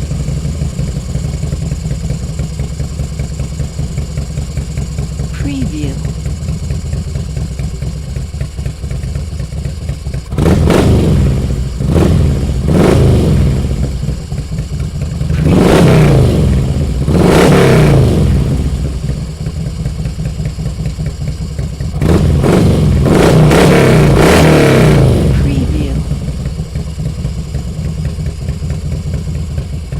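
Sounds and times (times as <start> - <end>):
motorcycle engine idling and revving: 0.0 - 29.9.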